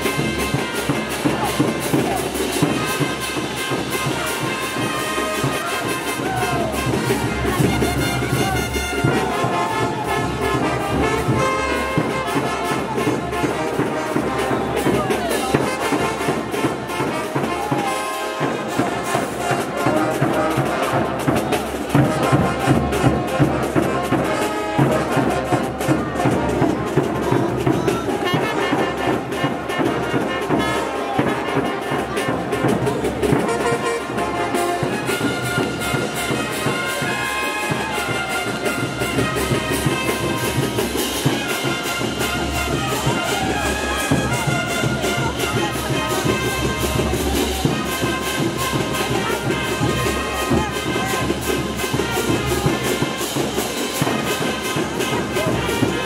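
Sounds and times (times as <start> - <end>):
brass band playing: 0.0 - 56.0
steady drumbeat: 0.0 - 56.0.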